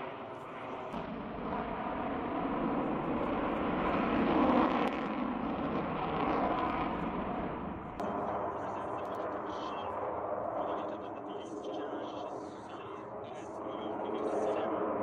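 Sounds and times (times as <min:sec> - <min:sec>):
fighter jet engines rushing: 0:00.0 - 0:15.0.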